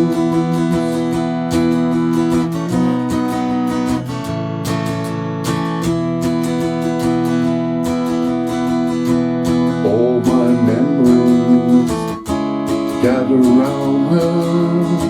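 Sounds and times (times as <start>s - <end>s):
guitar strummed: 0.0s - 15.0s.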